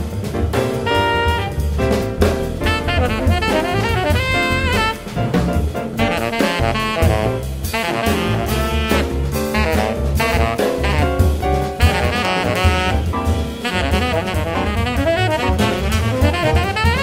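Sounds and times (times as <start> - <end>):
brass: 0.0 - 17.0
drum kit beat: 0.0 - 17.0
saxophone: 0.7 - 17.0.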